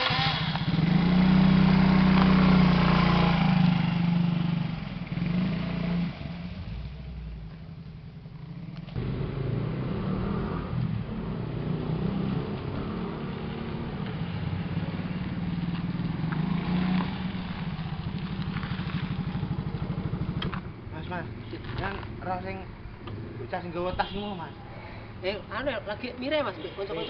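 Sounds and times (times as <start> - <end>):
motorcycle engine riding: 0.0 - 23.8.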